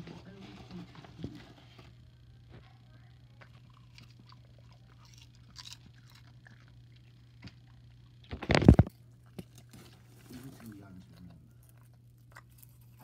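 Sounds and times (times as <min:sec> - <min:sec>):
low hum: 0:00.0 - 0:13.0
dog crunching popcorn: 0:02.5 - 0:13.0.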